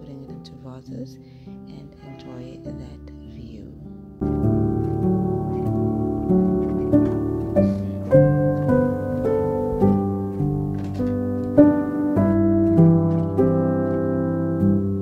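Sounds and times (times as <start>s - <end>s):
gentle plucked instrumental music: 0.0s - 15.0s.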